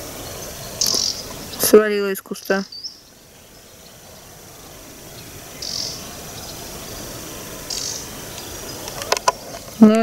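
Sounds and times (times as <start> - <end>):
small bird hissing calls: 0.0 - 1.8, 2.4 - 9.2.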